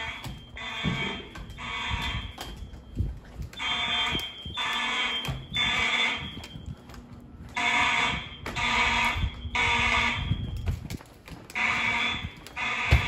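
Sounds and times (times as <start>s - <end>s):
fire alarm horns blaring: 0.0s - 13.0s.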